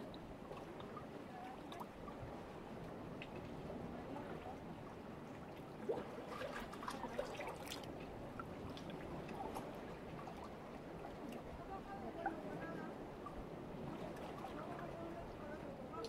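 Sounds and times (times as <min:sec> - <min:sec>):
small splashes and drips: 0:00.0 - 0:11.5, 0:13.2 - 0:14.9
seawater lapping among rocks: 0:00.0 - 0:16.0.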